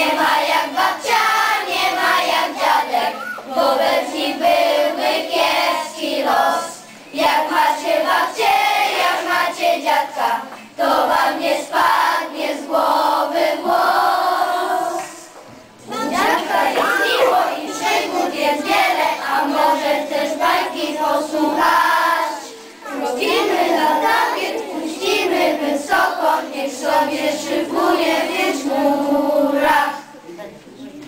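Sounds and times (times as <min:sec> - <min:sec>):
young children singing: 0:00.0 - 0:30.3.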